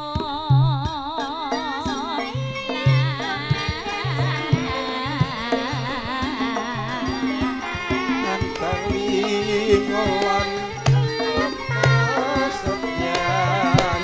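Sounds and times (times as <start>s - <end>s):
person singing with vibrato: 0.0s - 14.0s
gamelan ensemble playing: 1.5s - 14.0s.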